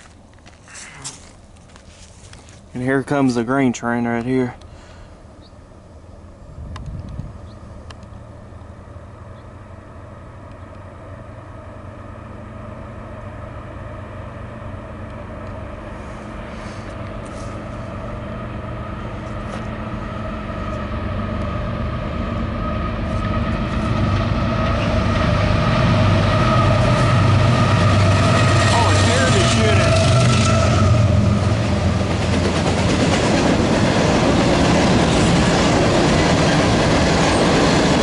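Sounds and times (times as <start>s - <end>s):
diesel locomotive engine drone: 0.0s - 38.0s.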